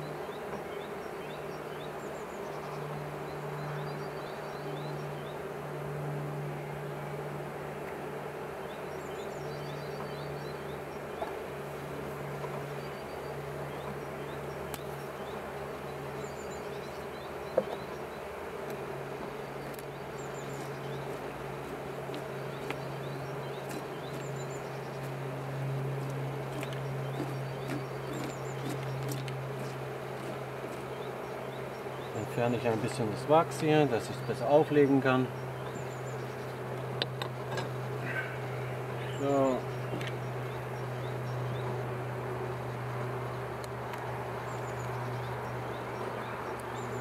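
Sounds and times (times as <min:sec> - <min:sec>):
honeybees buzzing: 0:00.0 - 0:47.0.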